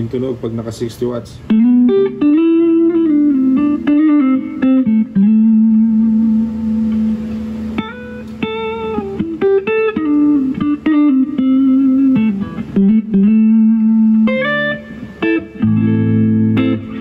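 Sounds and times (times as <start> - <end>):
clean electric guitar melody: 1.4 - 17.0.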